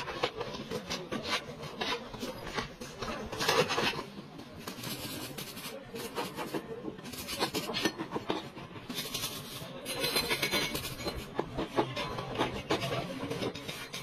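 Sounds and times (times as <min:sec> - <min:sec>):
metal tool scraping sheet metal: 0:00.0 - 0:14.0.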